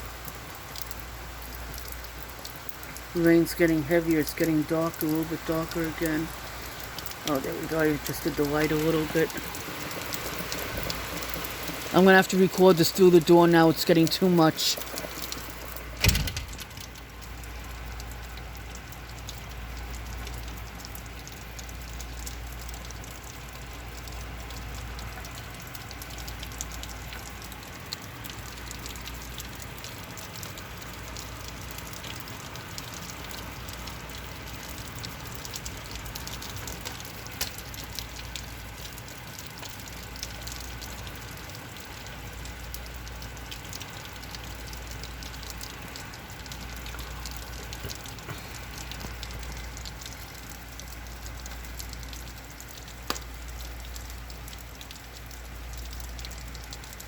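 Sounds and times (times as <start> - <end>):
heavy rain through a door: 0.0 - 57.0.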